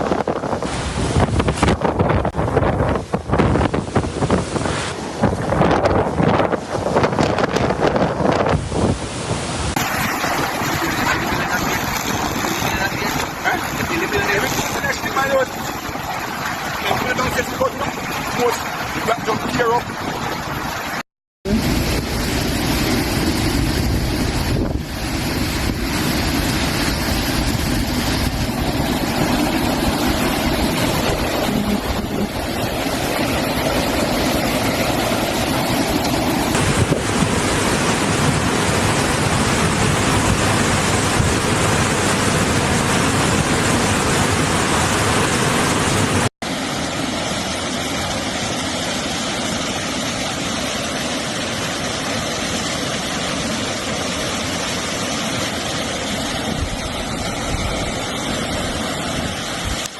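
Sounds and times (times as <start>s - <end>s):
wind buffeting microphone: 0.0s - 46.3s, 56.2s - 59.9s
hurricane wind rushing: 0.0s - 59.9s
surf: 0.0s - 59.9s.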